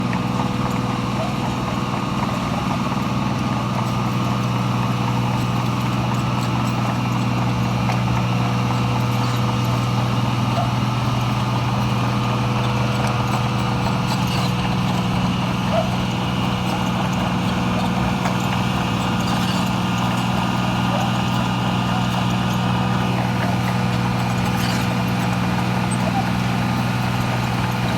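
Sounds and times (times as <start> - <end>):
diesel engine idling: 0.0 - 27.9.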